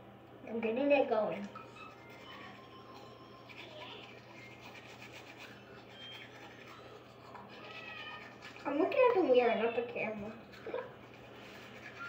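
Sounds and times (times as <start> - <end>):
toothbrush scrubbing teeth: 1.5 - 12.0.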